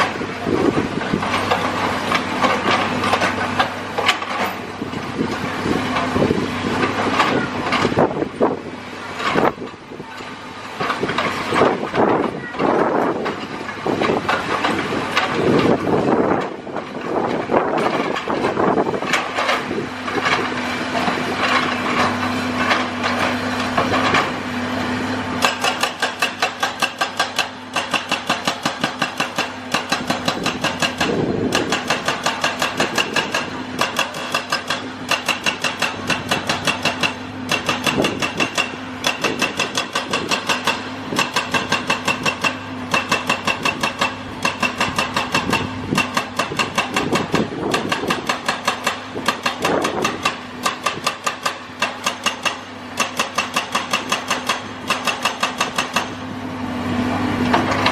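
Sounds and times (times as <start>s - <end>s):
hydraulic breaker hammering concrete: 0.0s - 56.5s, 57.3s - 57.9s
excavator engine running: 0.0s - 57.9s.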